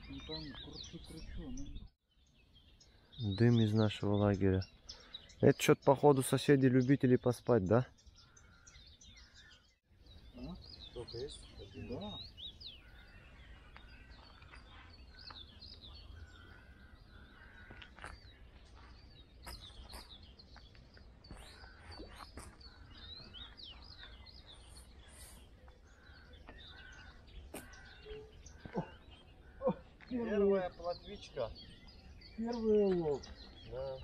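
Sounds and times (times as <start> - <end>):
songbirds singing and chirping: 0.0 - 34.0.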